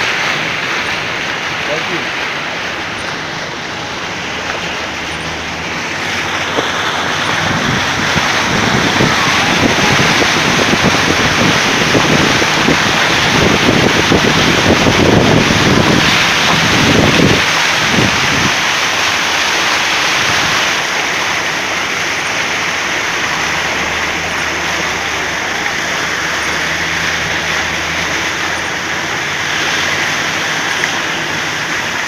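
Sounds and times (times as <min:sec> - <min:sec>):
car tyres splashing through water: 0:00.0 - 0:32.0.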